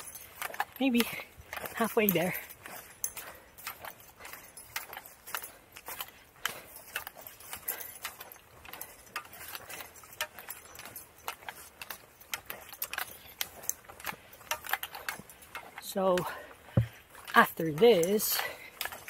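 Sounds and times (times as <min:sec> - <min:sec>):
backpack gear rattling and clinking: 0:00.0 - 0:19.0
footsteps on a trail: 0:00.0 - 0:19.0.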